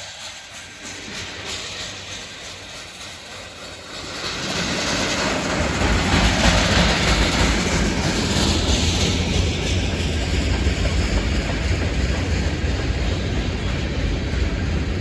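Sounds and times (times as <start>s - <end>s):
freight train rumbling by: 0.0s - 15.0s.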